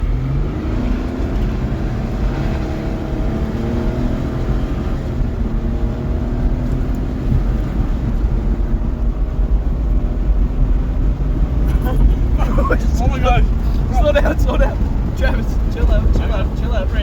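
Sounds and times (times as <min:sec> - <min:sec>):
pickup engine accelerating: 0:00.0 - 0:17.0
road and wind rumble: 0:00.0 - 0:17.0.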